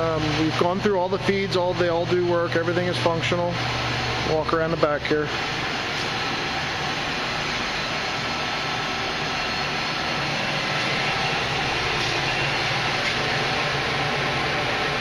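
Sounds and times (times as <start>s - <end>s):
lathe running: 0.0s - 15.0s.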